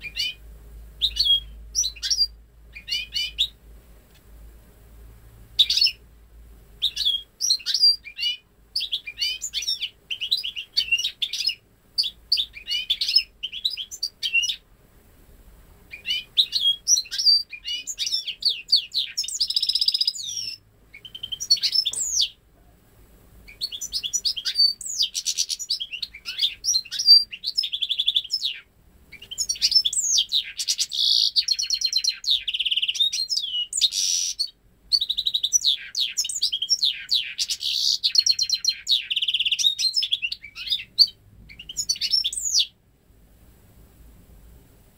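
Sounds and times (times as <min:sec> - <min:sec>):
finch twittering song: 0:00.0 - 0:00.4, 0:01.0 - 0:03.6, 0:05.6 - 0:06.0, 0:06.8 - 0:14.6, 0:15.9 - 0:22.4, 0:23.5 - 0:42.8.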